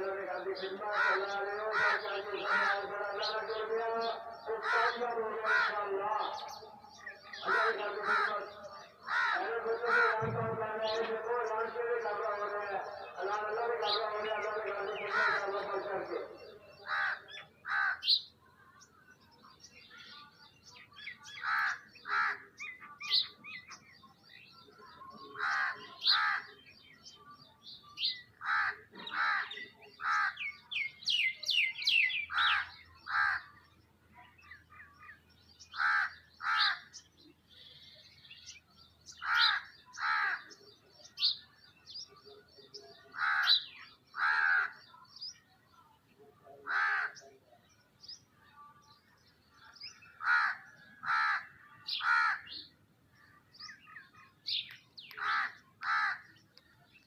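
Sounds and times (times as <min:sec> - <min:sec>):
harsh bird calls: 0:00.0 - 0:57.0.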